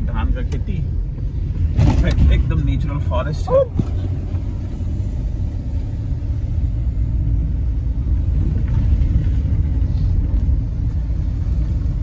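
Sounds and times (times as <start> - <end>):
car driving low rumble: 0.0 - 12.0.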